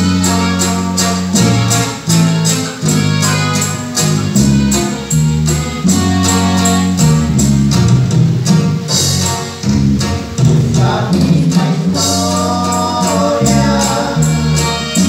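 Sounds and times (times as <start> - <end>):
accordion and guitars band music: 0.0 - 15.0.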